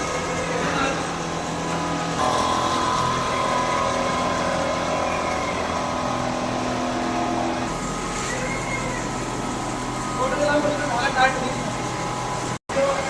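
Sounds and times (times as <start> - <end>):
quilting machine running: 0.0 - 13.0.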